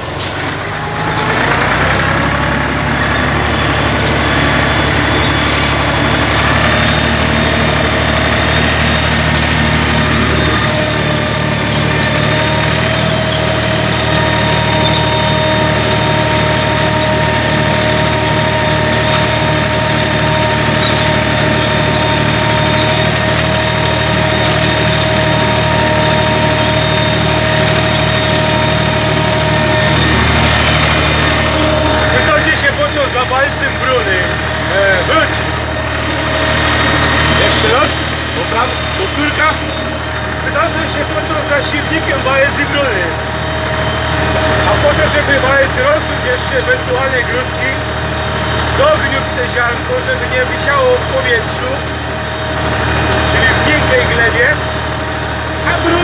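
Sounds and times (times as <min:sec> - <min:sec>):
high whine: 0:00.0 - 0:56.0
tractor engine running: 0:00.0 - 0:56.0.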